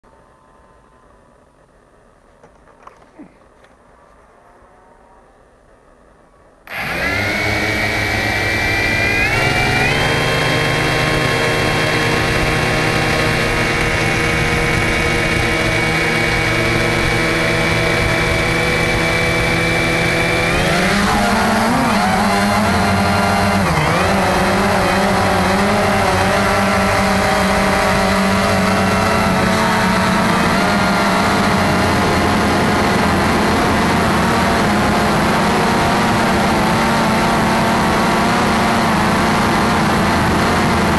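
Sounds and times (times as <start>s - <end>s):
drone motors humming: 6.7s - 40.9s.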